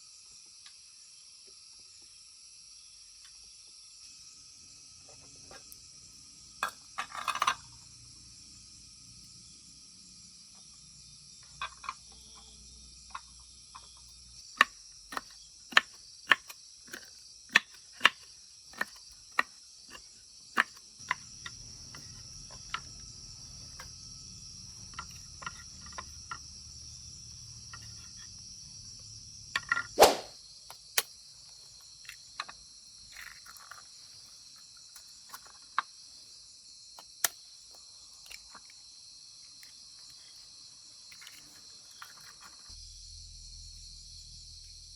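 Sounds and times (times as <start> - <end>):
crickets chirring: 0.0 - 44.9.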